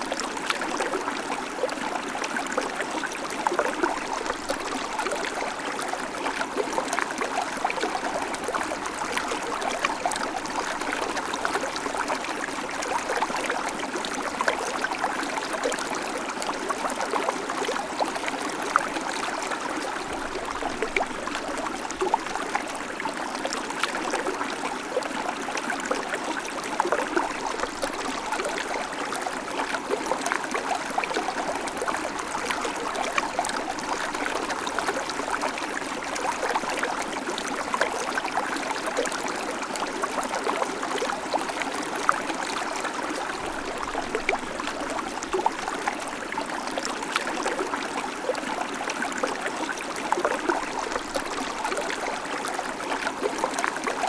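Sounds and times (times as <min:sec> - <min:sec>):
creek water running over stones: 0:00.0 - 0:54.0.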